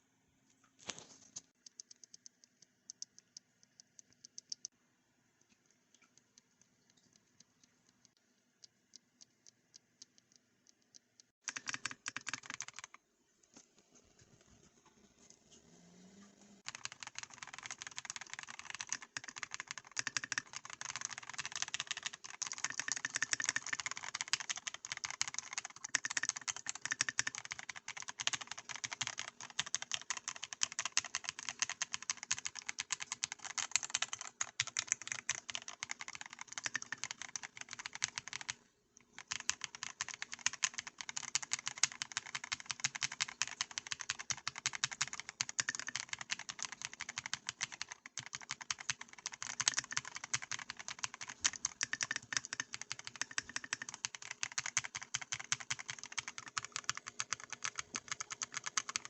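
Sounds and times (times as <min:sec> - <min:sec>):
mechanical keyboard typing: 0:01.6 - 0:04.8, 0:07.9 - 0:13.0, 0:16.6 - 0:59.0.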